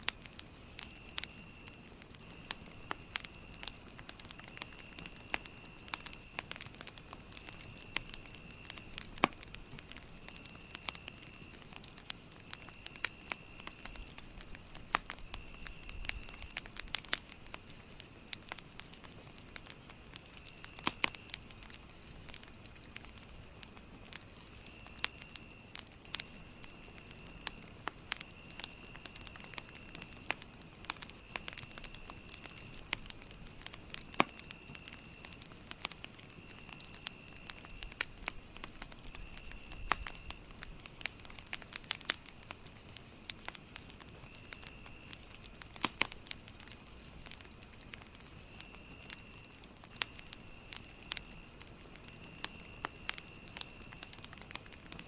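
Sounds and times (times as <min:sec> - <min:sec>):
campfire crackling and popping: 0:00.0 - 0:55.0
insect chirping: 0:00.1 - 0:55.0.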